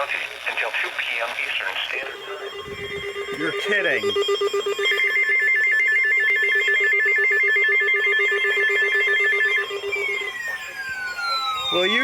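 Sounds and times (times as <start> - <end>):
steady low buzz: 2.0 - 12.0
electronic warbling ring: 2.1 - 12.0
falling whistle-like glide: 2.2 - 12.0.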